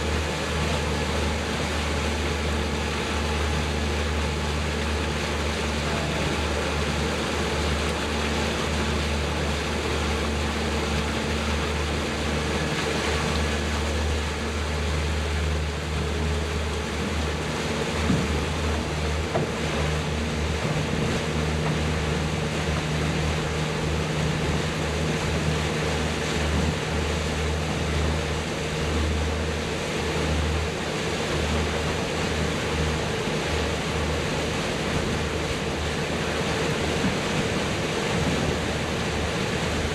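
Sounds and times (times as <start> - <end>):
boat motor humming: 0.0 - 39.9
water rushing past hull: 0.0 - 39.9
wind: 0.0 - 39.9.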